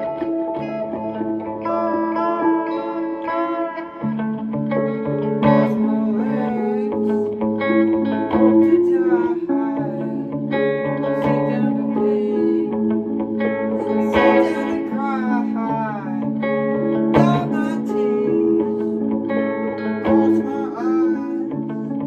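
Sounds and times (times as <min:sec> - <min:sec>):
electric guitar with reverb: 0:00.0 - 0:22.0.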